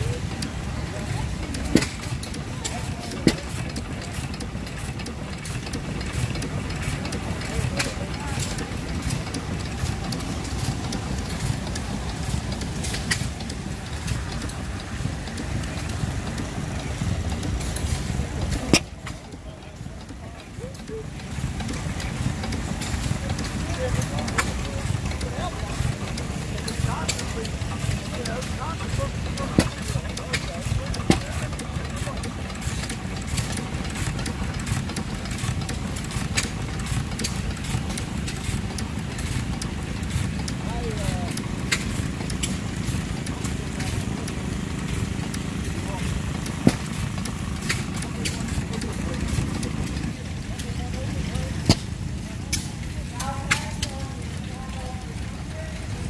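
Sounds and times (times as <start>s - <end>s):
stationary gas engine running: 0.0s - 56.0s
sharp clicks: 0.2s - 54.1s.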